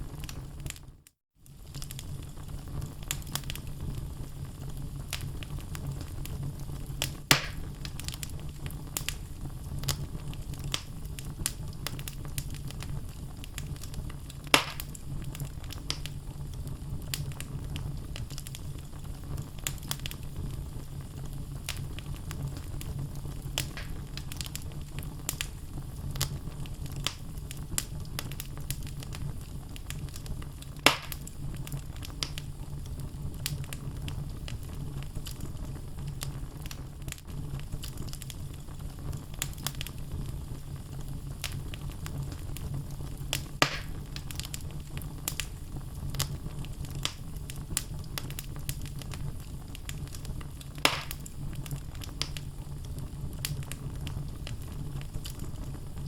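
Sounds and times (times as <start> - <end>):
logs crackling in fireplace: 0.0 - 56.0
loud fire pops: 0.0 - 56.0
low rumble of flames: 0.0 - 56.0.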